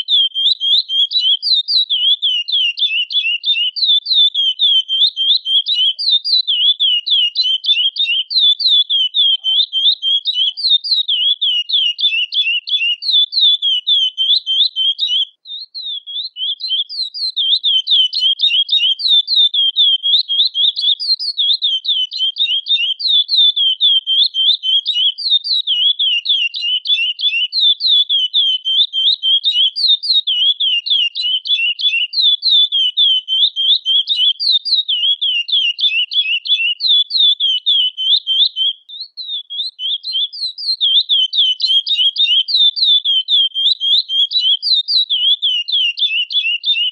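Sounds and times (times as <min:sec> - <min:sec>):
finch chirping: 0:00.0 - 0:46.9.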